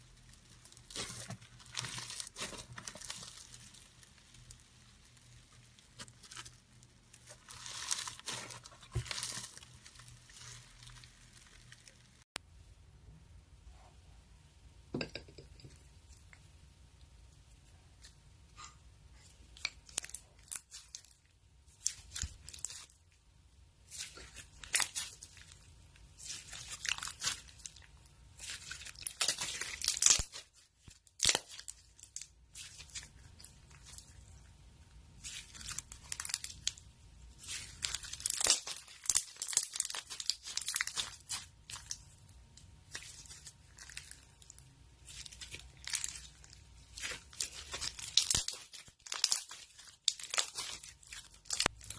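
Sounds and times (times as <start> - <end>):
slime crackling and popping: 0.0 - 12.3, 19.5 - 23.2, 23.8 - 51.9.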